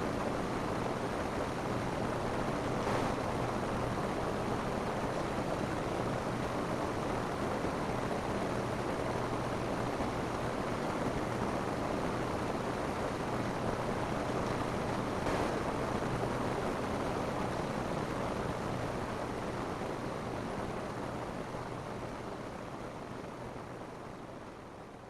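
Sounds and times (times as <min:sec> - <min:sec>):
rain falling on a roof: 0:00.1 - 0:25.0.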